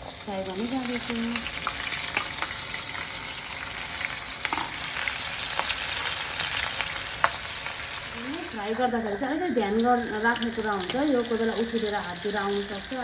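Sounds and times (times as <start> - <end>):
corn deep-frying in oil: 0.0 - 13.0.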